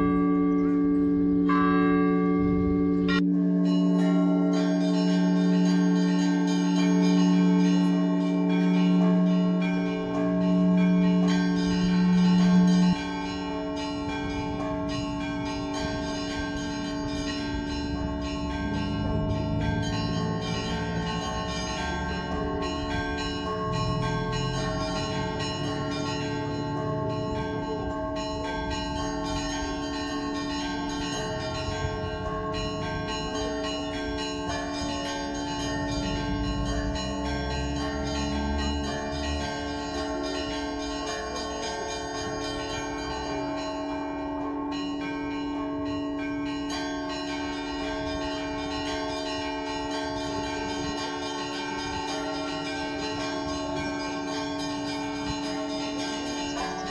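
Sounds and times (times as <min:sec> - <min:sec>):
deep bell ringing: 0:00.0 - 0:56.9.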